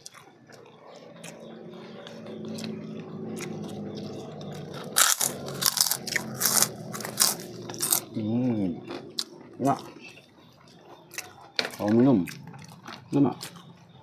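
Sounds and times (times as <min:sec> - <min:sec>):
crunchy bites: 0:00.0 - 0:08.2, 0:08.9 - 0:14.0
low steady hum: 0:00.0 - 0:14.0
mouth chewing: 0:00.0 - 0:14.0.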